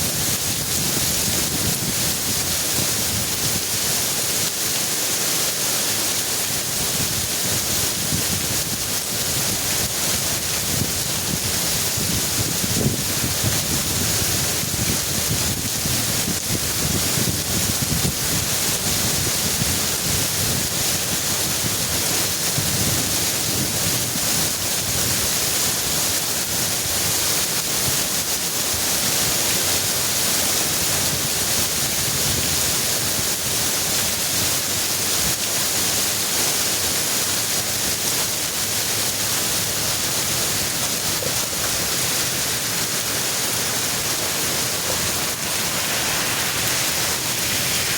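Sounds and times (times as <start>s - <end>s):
wind gusting on microphone: 0.0s - 4.5s, 6.4s - 35.5s, 39.1s - 47.9s
heavy rain pouring: 0.0s - 47.9s.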